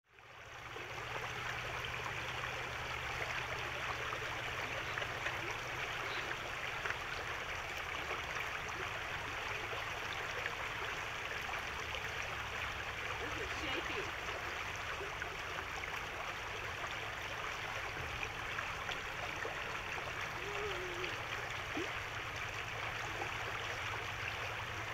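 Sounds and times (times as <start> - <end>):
river water flowing over rocks: 0.1 - 24.9.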